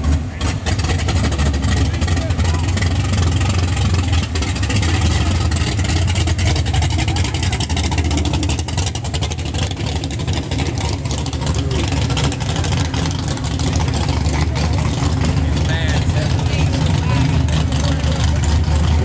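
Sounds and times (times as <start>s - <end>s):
car engine rolling by: 0.0s - 19.0s.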